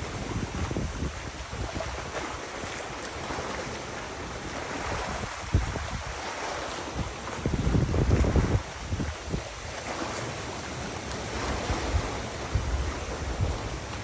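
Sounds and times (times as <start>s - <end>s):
river water rushing: 0.0s - 14.0s
wind buffeting microphone: 0.0s - 14.0s.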